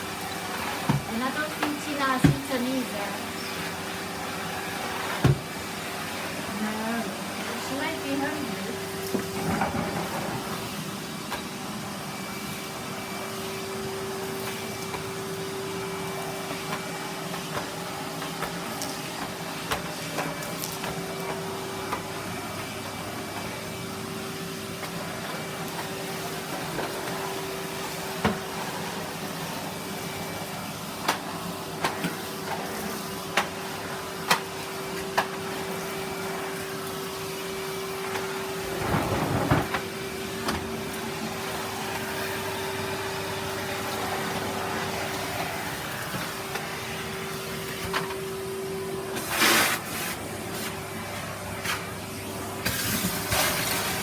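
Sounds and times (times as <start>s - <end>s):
vacuum cleaner whining: 0.0s - 54.0s.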